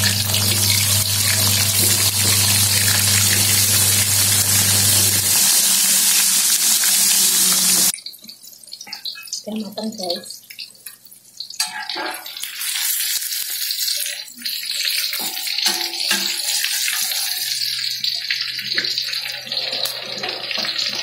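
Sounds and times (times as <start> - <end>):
oil sizzling: 0.0 - 9.5, 10.4 - 21.0.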